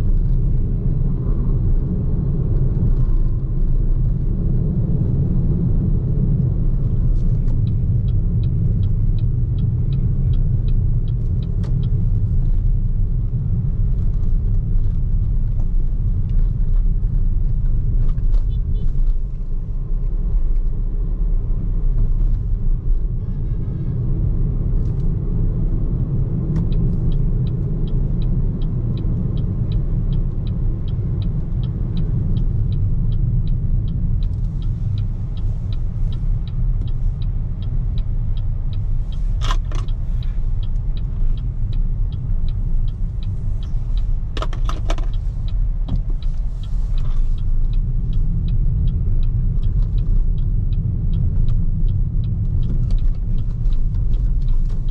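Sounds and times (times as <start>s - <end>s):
road and tyre rumble: 0.0s - 54.9s
regular light ticking: 1.5s - 23.2s, 24.3s - 54.9s.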